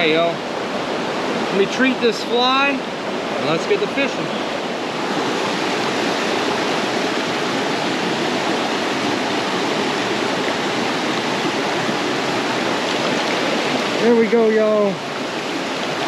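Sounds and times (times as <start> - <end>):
mountain stream rushing over rocks: 0.0 - 16.0.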